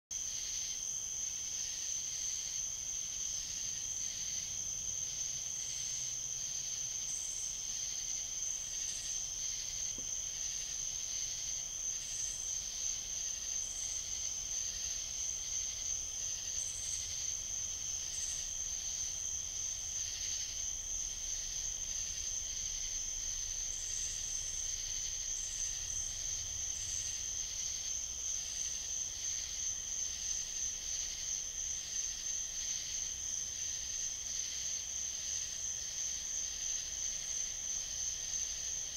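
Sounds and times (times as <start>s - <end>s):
high-pitched insect trill: 0.2s - 38.9s
low pulsing insect layer: 0.2s - 38.9s.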